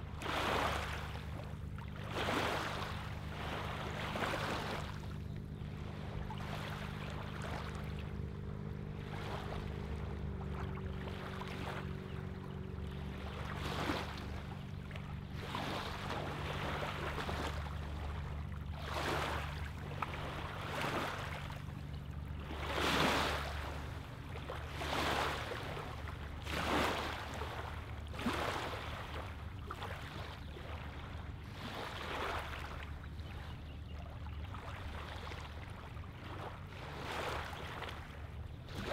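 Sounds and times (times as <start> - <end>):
low motor hum: 0.0 - 38.9
wavelets lapping on shore: 0.0 - 38.9.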